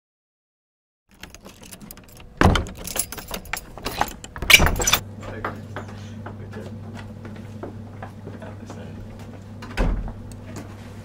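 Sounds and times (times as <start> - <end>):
steady low hum: 1.1 - 11.0.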